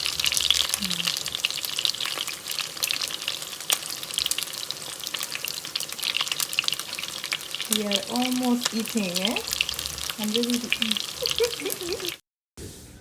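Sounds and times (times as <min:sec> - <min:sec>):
chicken frying with crackling pops: 0:00.0 - 0:12.2.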